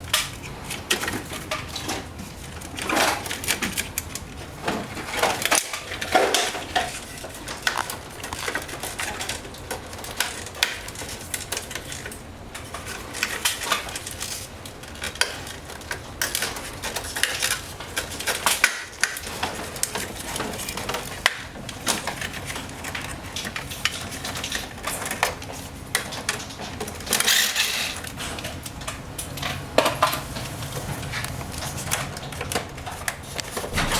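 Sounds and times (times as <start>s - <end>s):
plastic and metal parts clattering: 0.0s - 33.9s.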